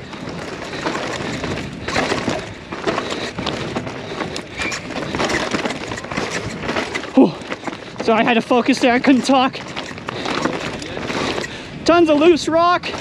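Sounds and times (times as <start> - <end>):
bike knocks and rattles: 0.0 - 13.0
bike tyre noise on dirt: 0.0 - 13.0.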